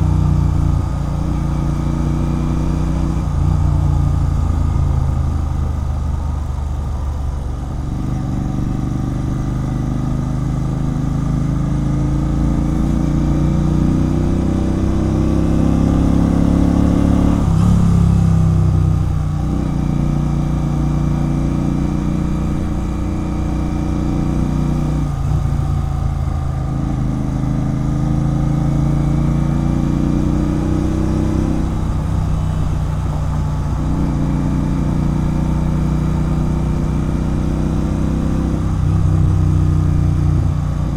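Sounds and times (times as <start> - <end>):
motorcycle engine with loud exhaust: 0.0 - 40.9.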